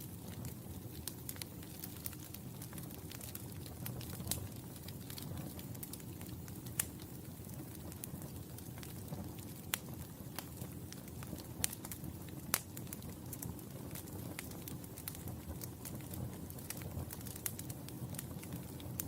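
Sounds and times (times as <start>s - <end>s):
fire crackling in fireplace: 0.0s - 19.0s.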